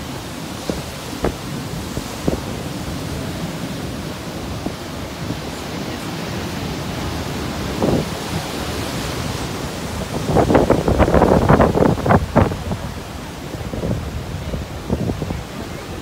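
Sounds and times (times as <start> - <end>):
waves breaking on beach: 0.0 - 16.0
wind rumbling on microphone: 0.0 - 16.0.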